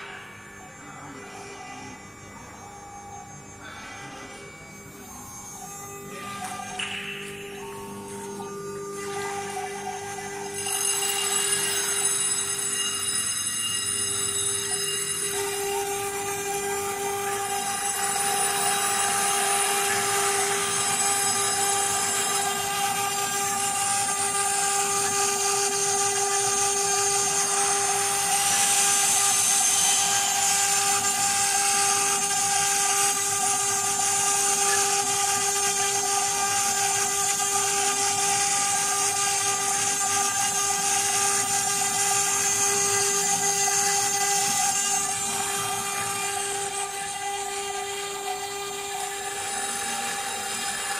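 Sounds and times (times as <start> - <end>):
engraving bit cutting hiss: 0.0 - 50.9
router spindle whine: 0.0 - 50.9.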